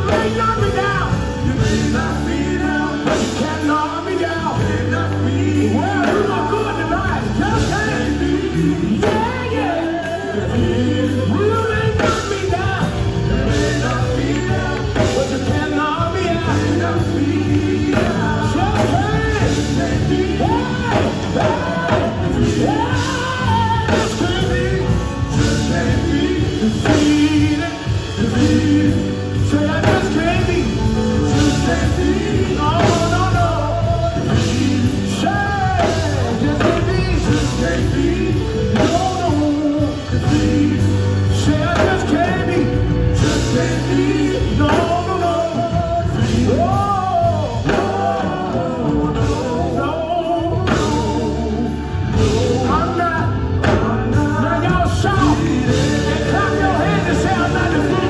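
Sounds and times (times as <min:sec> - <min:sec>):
electric bass and keyboard: 0:00.0 - 0:58.0
man singing gospel: 0:00.0 - 0:58.0.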